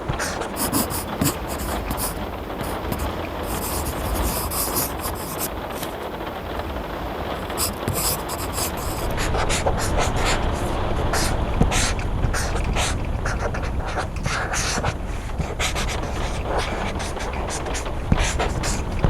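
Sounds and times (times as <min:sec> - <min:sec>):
steady rain: 0:00.0 - 0:19.0
pencil scratching on paper: 0:00.1 - 0:05.9, 0:07.4 - 0:19.0.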